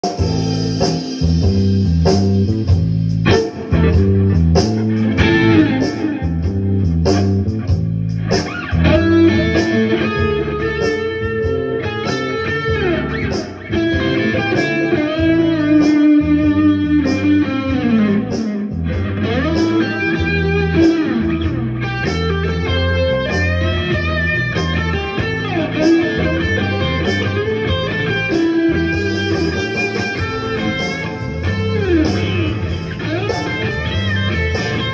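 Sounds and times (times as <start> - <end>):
bass line: 0.0 - 34.9
blues electric guitar: 0.0 - 34.9
regular beat: 0.0 - 34.9.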